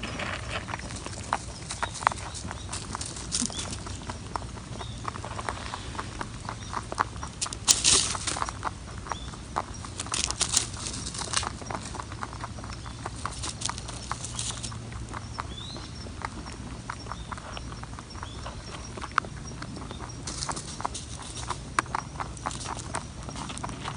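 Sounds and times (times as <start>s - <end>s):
rabbit crunching food: 0.0s - 23.9s.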